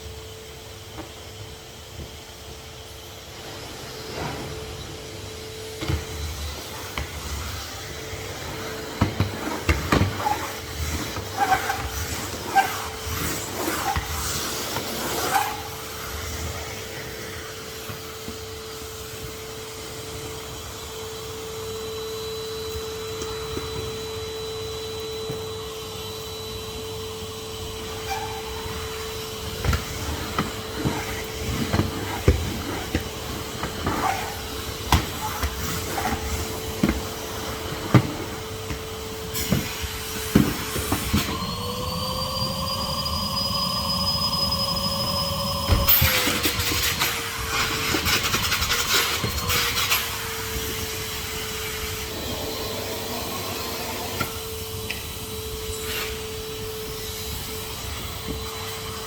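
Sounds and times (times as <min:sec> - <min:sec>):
vacuum cleaner motor whine: 0:00.0 - 0:59.0.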